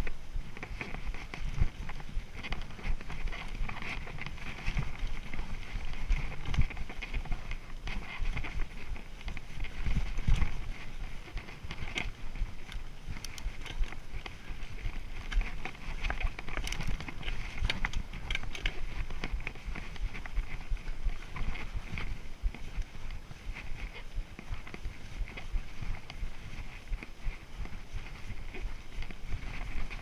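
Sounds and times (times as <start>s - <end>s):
bike tyres on dirt trail: 0.0s - 30.0s.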